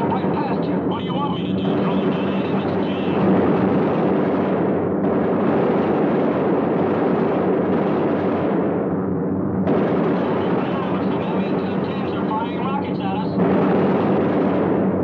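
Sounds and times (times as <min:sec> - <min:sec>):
machine-gun fire: 0:00.0 - 0:09.0, 0:09.6 - 0:12.6, 0:13.2 - 0:15.0.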